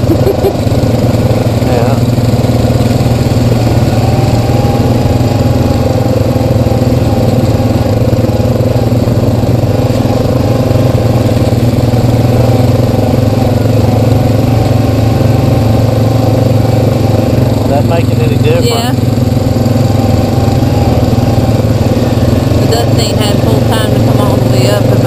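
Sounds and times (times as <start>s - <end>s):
atv engine running steadily: 0.0s - 25.0s.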